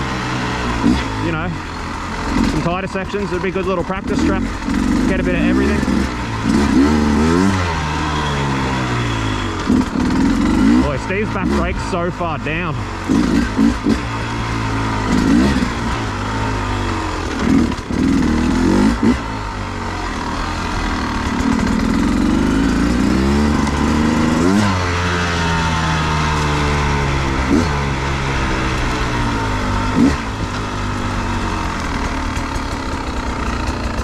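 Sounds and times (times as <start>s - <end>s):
motorcycle engine revving: 0.0s - 34.0s
sharp throttle blips: 0.0s - 34.0s.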